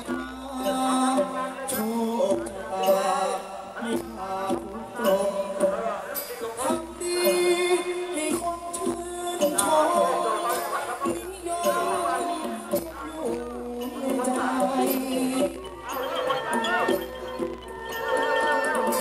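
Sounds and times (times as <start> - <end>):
instrumental accompaniment: 0.0 - 19.0
person singing into a microphone: 0.0 - 19.0.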